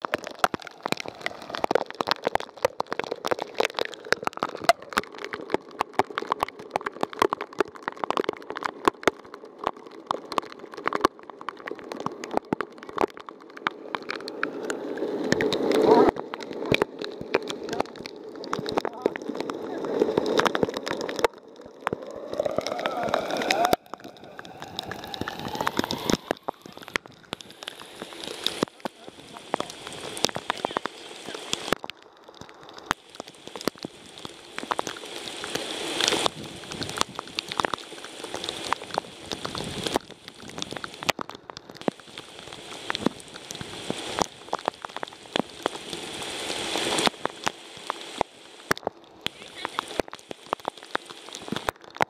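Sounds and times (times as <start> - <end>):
rain hiss: 0.0 - 52.0
raindrops tapping: 0.0 - 52.0.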